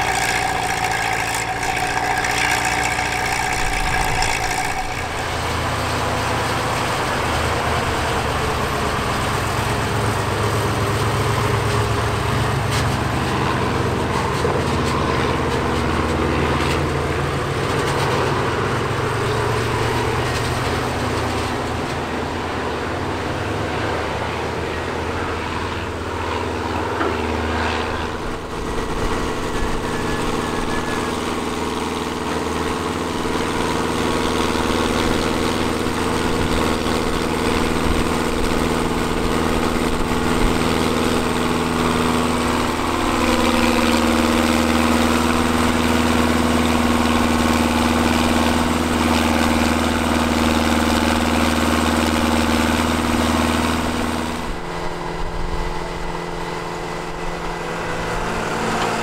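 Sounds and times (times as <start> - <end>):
earthmoving machine engine running: 0.0 - 59.0.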